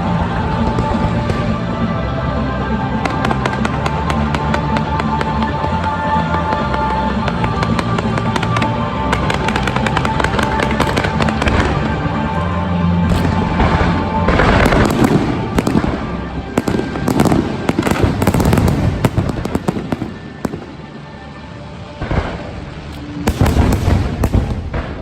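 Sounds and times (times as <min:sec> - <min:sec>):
loud music: 0:00.0 - 0:24.9
fireworks crackling and popping: 0:00.0 - 0:25.0.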